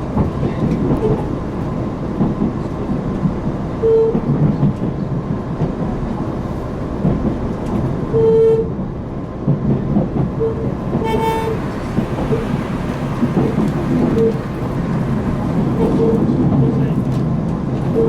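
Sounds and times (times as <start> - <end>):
rail noise: 0.0 - 18.0
train engine rumble: 0.0 - 18.0.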